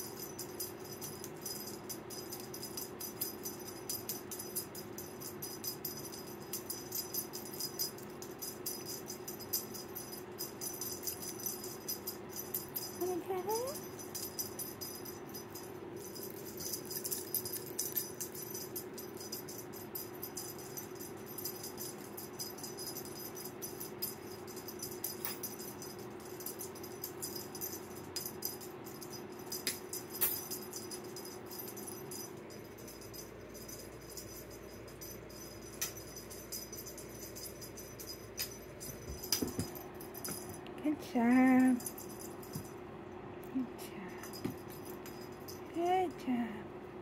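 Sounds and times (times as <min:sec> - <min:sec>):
small bell jingling and rattling: 0:00.0 - 0:43.2, 0:43.9 - 0:46.4
steady low hum: 0:00.0 - 0:47.0.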